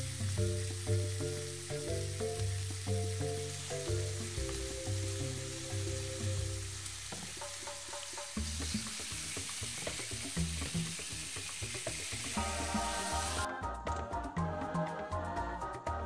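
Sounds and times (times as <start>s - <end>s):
cabbage sizzling in a pan: 0.0s - 13.5s.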